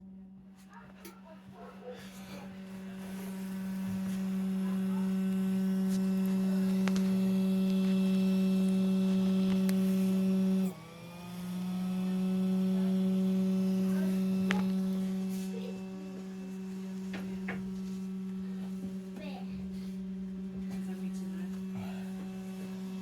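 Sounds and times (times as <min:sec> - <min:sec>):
cooling fan humming drone: 0:00.0 - 0:23.0.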